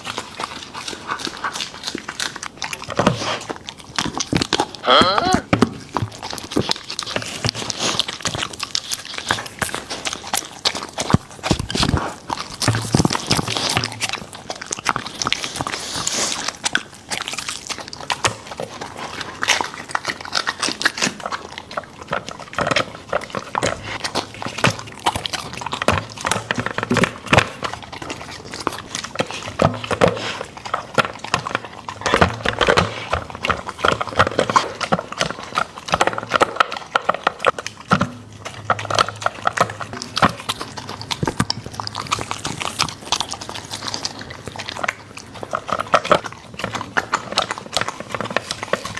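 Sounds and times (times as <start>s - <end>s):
dog chewing and crunching: 0.0s - 48.9s.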